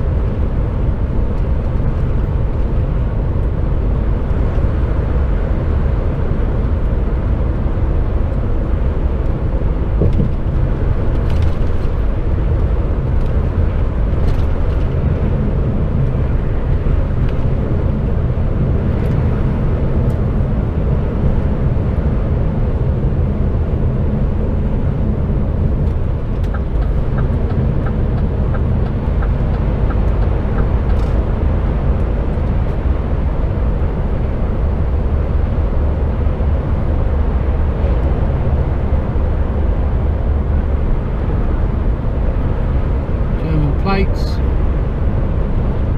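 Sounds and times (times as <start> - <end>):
lorry engine and road noise: 0.0 - 45.9.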